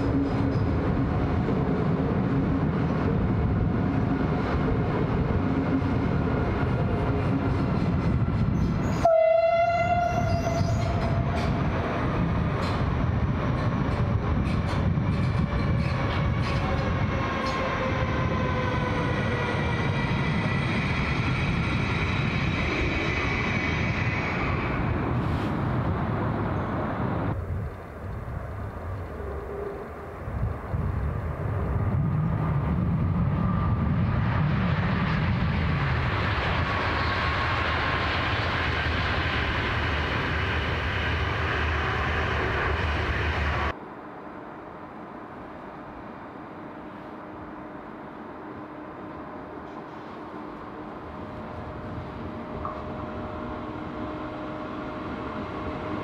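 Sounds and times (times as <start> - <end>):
train rushing past: 0.0 - 27.6, 28.3 - 56.0.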